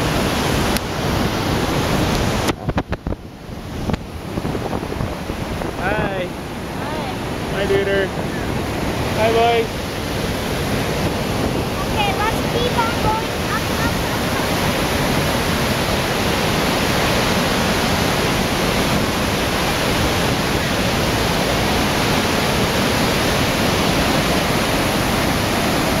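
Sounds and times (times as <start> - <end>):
waterfall pounding onto rocks: 0.0 - 26.0.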